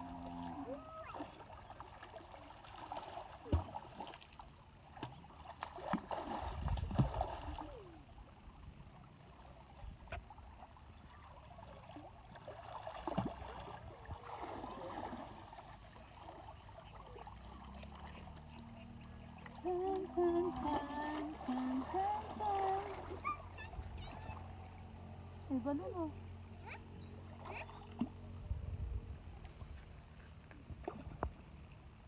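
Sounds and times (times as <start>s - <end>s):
people splashing in water: 0.0s - 8.1s, 9.4s - 28.4s, 29.5s - 31.2s
river water flowing: 0.7s - 28.4s.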